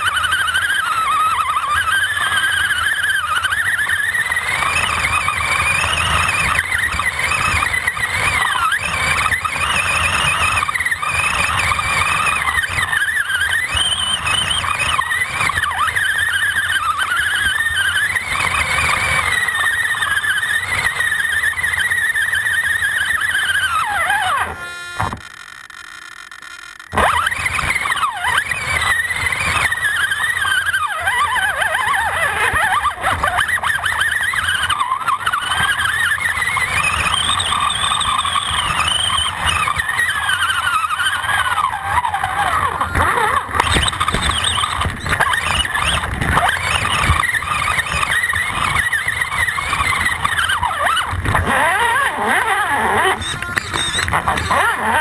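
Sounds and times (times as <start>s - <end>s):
electric motor and gears whining: 0.0s - 55.0s.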